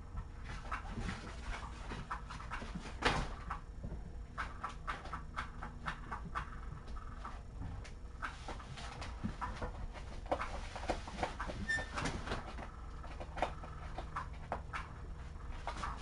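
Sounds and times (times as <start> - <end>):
kittens tapping and scuffling: 0.1 - 16.0.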